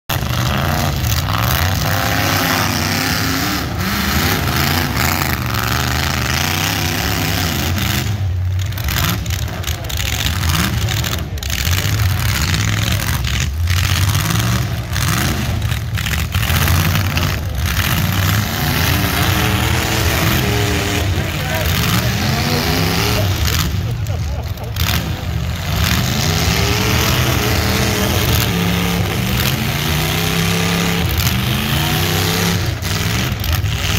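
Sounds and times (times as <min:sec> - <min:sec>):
car engines running and revving: 0:00.0 - 0:33.9.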